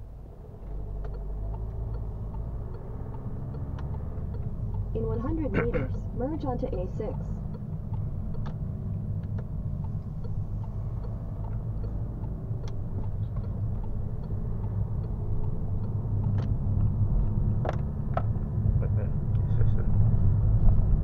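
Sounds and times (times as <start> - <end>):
van engine and road rumble: 0.0 - 21.0.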